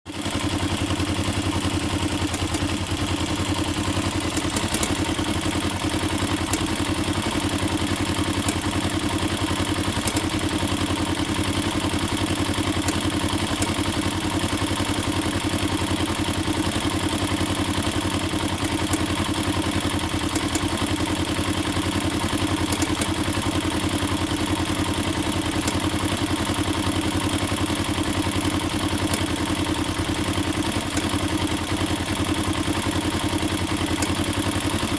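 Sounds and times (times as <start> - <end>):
engine clattering: 0.1 - 34.9
motorcycle engine idling: 0.1 - 34.9.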